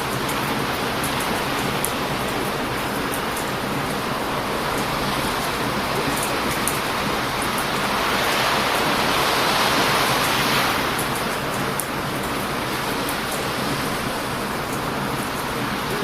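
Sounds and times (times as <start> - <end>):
campfire crackles: 0.0 - 16.0
surf rushing onto beach: 0.0 - 16.0.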